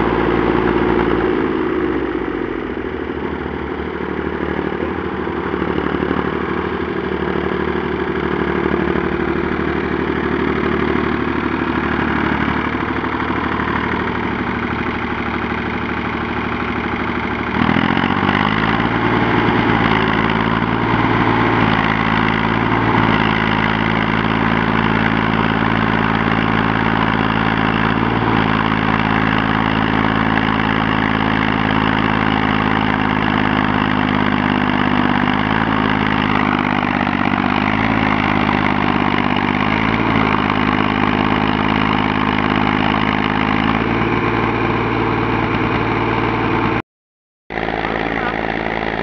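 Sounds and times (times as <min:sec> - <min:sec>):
tractor engine running: 0:00.0 - 0:46.8, 0:47.5 - 0:49.0.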